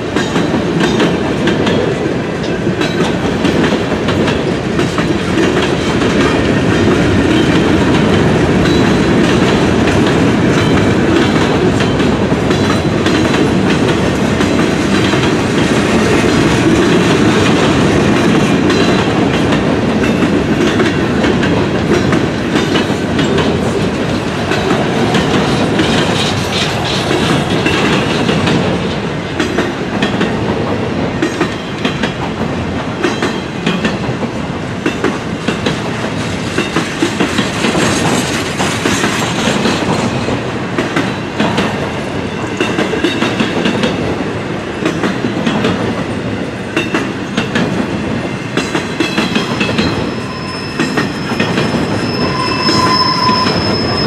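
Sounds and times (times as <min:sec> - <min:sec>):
train cars rumbling past: 0:00.0 - 0:54.0.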